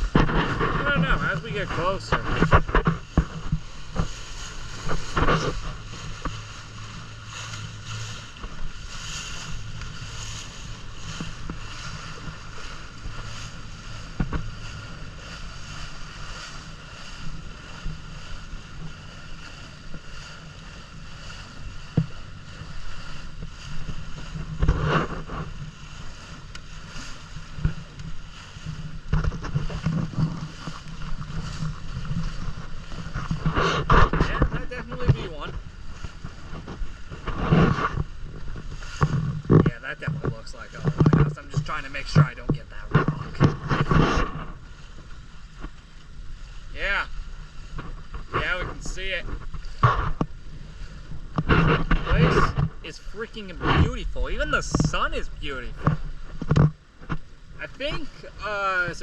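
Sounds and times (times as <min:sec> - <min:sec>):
boat engine humming: 0:00.0 - 0:59.0
wind buffeting microphone: 0:00.0 - 0:59.0.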